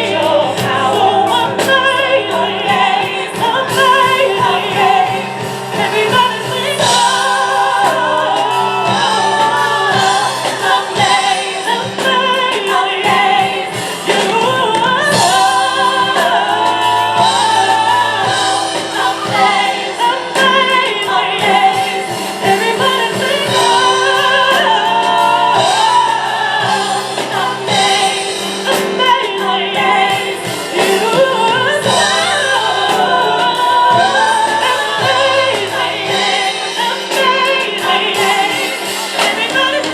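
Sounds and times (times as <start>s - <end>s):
piano accompaniment: 0.0s - 39.9s
women singing gospel together: 0.0s - 39.9s.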